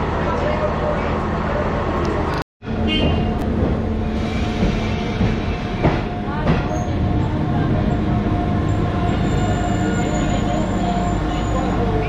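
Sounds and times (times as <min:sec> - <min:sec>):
train rumbling into station: 0:00.0 - 0:12.0.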